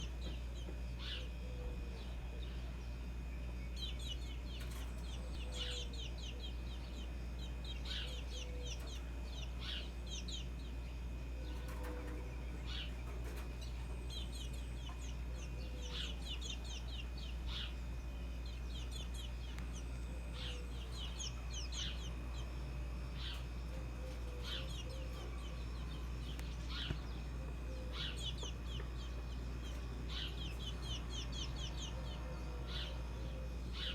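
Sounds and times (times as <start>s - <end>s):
birds chirping: 0.0s - 33.9s
steady low hum: 0.0s - 33.9s.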